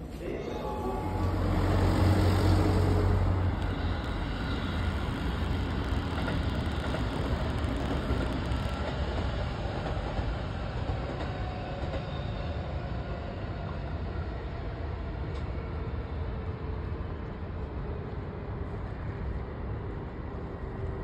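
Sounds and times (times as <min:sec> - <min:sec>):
train wheels on track: 0:00.0 - 0:21.0.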